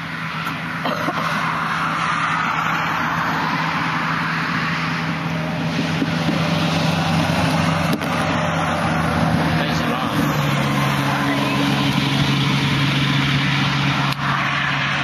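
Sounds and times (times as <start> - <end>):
road and wind hiss: 0.0 - 15.0
vehicle engine hum: 0.0 - 15.0.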